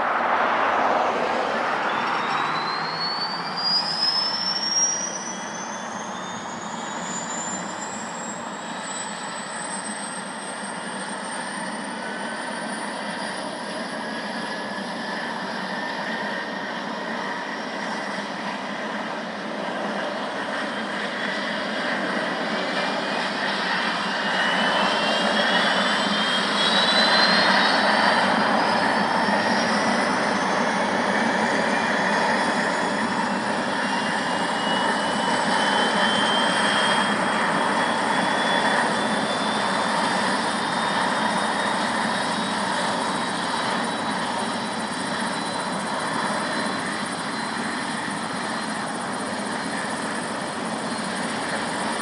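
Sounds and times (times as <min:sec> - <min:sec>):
helicopter engine and rotor: 0:01.0 - 0:52.0.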